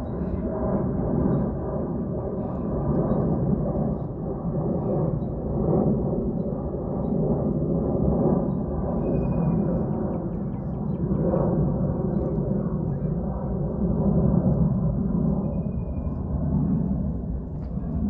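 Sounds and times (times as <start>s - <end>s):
airplane passing overhead: 0.0s - 18.0s.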